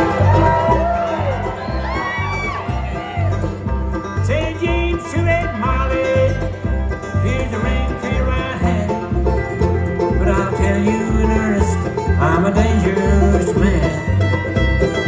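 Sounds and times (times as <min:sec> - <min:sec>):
banjo picking: 0:00.0 - 0:15.0
guitar picking: 0:00.0 - 0:15.0
steady bass beat: 0:00.0 - 0:15.0.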